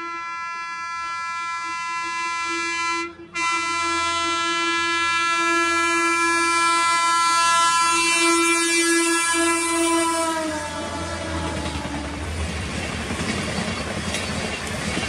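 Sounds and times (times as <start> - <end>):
locomotive horn blast: 0.0 - 12.2.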